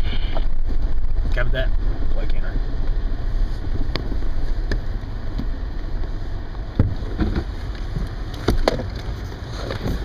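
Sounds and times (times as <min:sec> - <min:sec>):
truck engine and tyre rumble: 0:00.0 - 0:10.0.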